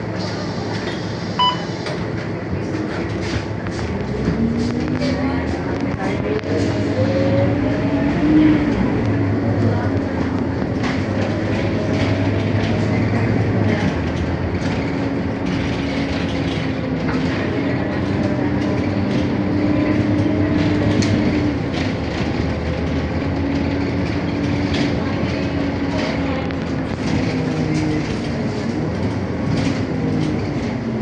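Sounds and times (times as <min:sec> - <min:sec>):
bus diesel engine accelerating: 0:00.0 - 0:31.0.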